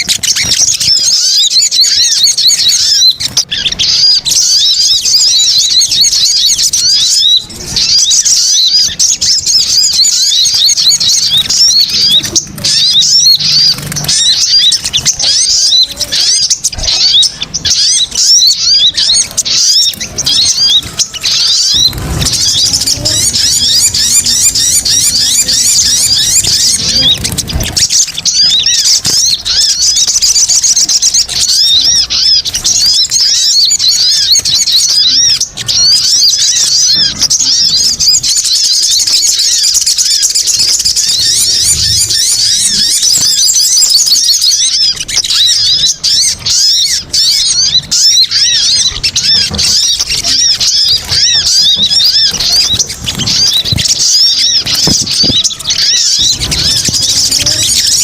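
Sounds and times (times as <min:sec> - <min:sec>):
sunbirds chattering: 0:00.0 - 0:58.0.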